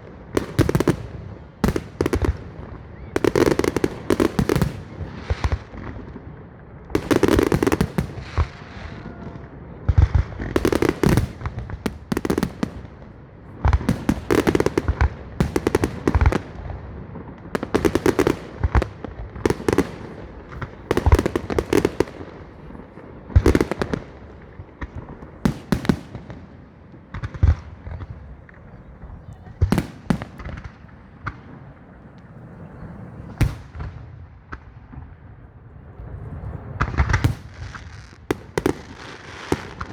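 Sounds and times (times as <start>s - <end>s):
fireworks bursting with crackling: 0.0s - 35.4s, 36.0s - 39.9s.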